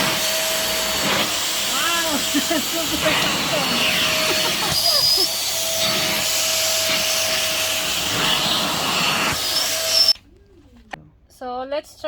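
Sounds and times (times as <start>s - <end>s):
stick vacuum running: 0.0s - 10.2s.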